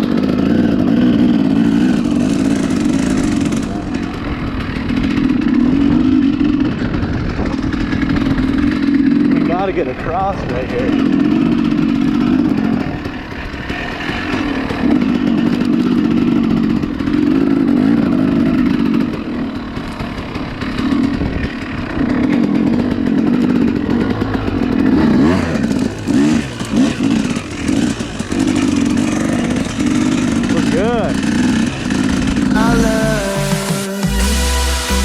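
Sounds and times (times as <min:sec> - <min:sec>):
dirt bike engine revving: 0:00.0 - 0:35.0
dirt bike engine running: 0:00.0 - 0:35.0.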